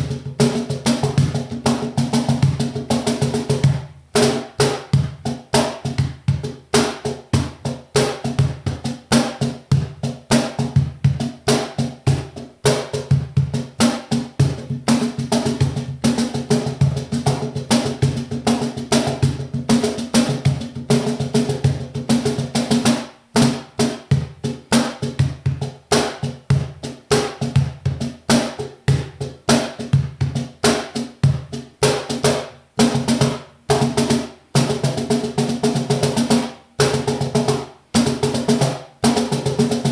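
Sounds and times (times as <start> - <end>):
cajon played by hand: 0.0 - 39.9.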